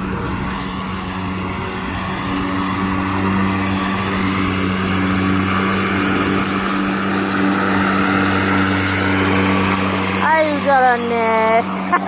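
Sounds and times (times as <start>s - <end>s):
electric lawn mower running: 0.0s - 12.0s.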